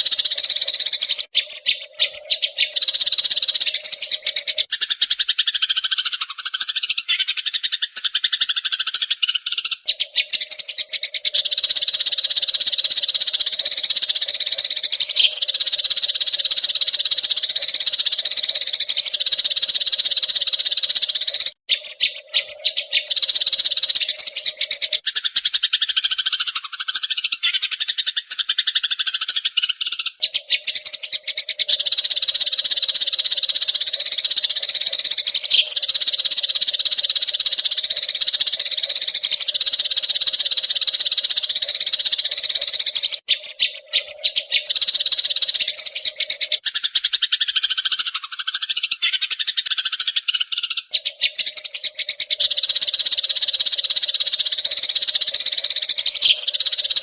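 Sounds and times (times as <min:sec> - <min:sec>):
low rapid bird twittering: 0:00.0 - 0:57.0
sparrows chirping: 0:00.0 - 0:57.0.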